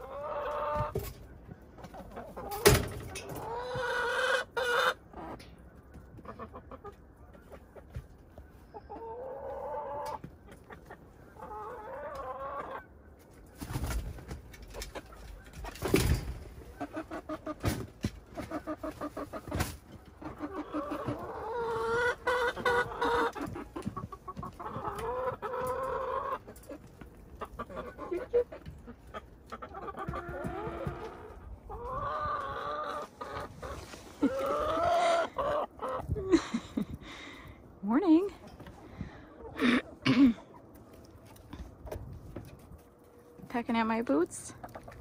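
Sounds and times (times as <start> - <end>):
hens clucking: 0.0 - 45.0.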